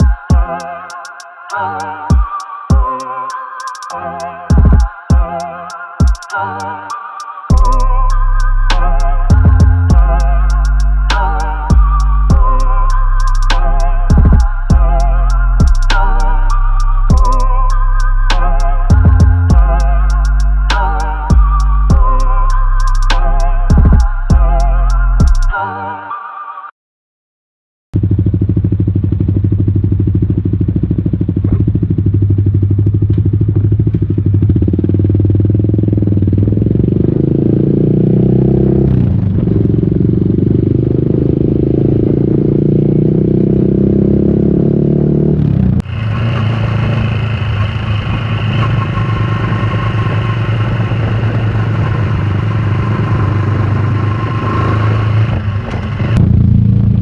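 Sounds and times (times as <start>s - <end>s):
motorcycle engine exhaust note: 7.5s - 25.5s, 28.0s - 57.0s.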